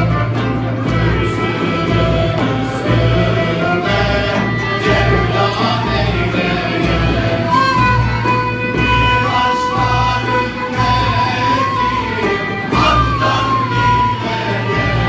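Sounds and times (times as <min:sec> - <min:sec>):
frame drum beat: 0:00.0 - 0:15.0
male choir singing in unison: 0:00.0 - 0:15.0
ney flute: 0:00.0 - 0:15.0
violin: 0:00.0 - 0:15.0.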